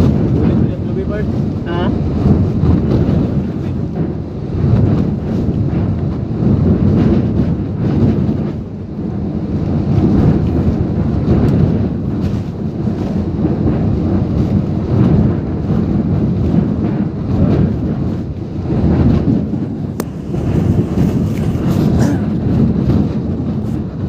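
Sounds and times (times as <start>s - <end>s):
gusting wind on microphone: 0.0s - 24.0s
rain: 0.0s - 24.0s.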